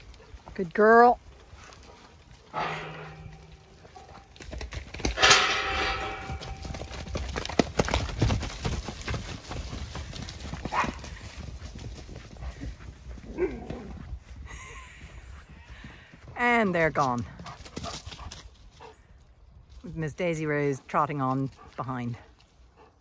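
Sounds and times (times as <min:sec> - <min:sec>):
horse hooves thudding on soft ground: 0:00.0 - 0:23.0.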